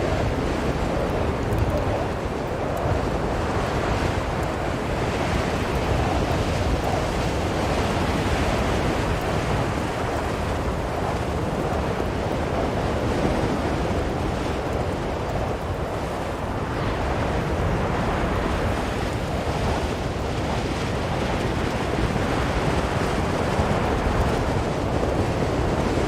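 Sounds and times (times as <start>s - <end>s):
blizzard wind blowing: 0.0s - 26.0s.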